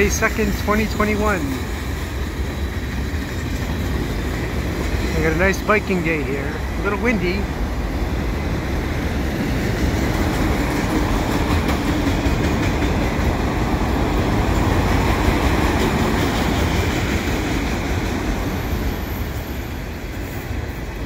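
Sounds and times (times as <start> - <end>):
train wheels rolling on rails: 0.0 - 21.0.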